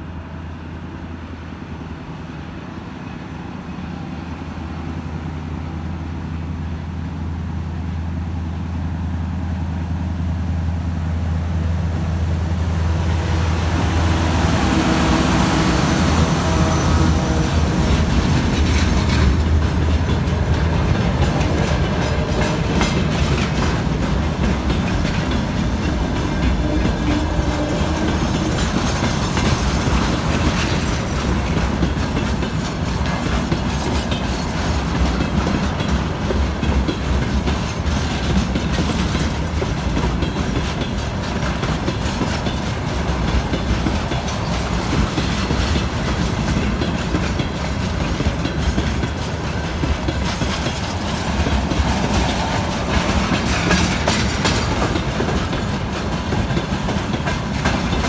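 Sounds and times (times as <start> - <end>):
train rumble: 0.0 - 58.0
train wheels clacking on rails: 0.9 - 58.0.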